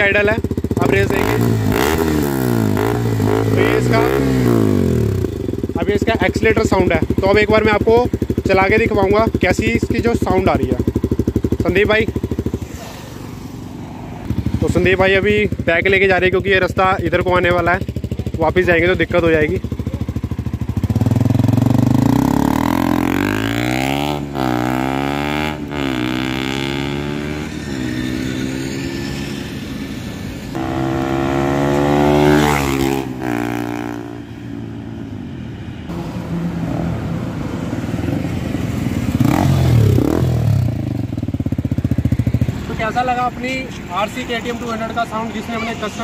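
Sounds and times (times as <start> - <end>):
motorcycle engine accelerating: 0.0 - 35.1, 35.9 - 46.0.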